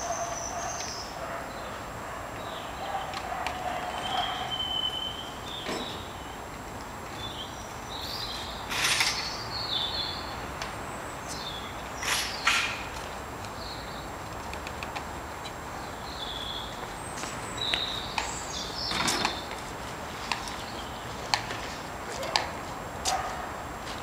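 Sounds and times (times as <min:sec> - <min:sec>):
birds chirping: 0:00.0 - 0:14.2, 0:14.9 - 0:21.8
outdoor ambience: 0:00.0 - 0:24.0.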